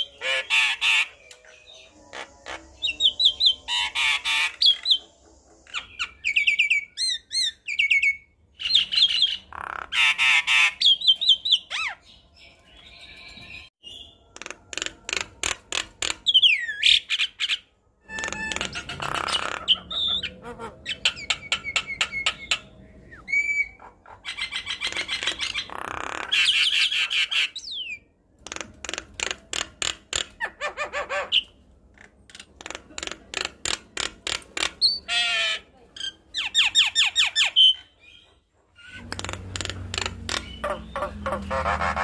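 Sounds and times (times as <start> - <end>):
myna bird singing: 0.0 - 28.2, 33.5 - 42.0.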